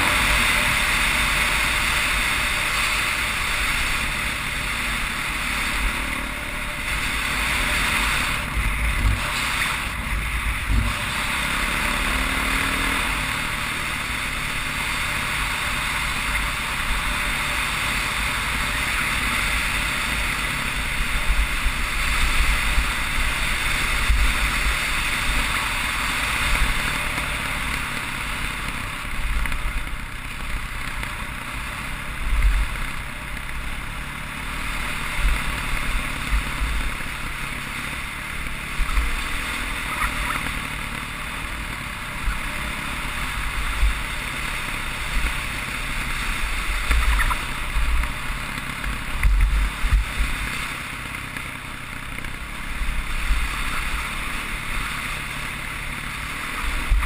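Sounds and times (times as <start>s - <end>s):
muffled dirt bike engine: 0.0s - 57.0s.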